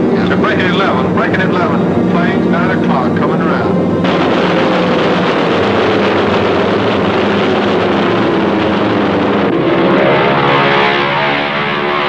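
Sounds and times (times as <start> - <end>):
aircraft engine whine: 0.0 - 12.0.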